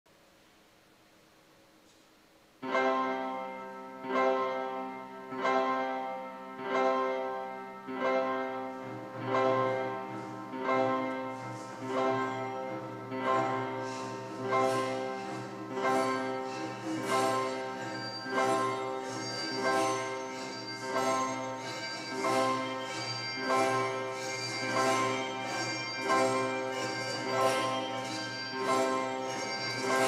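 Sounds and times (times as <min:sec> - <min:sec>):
piano-led instrumental music: 0:02.6 - 0:30.0.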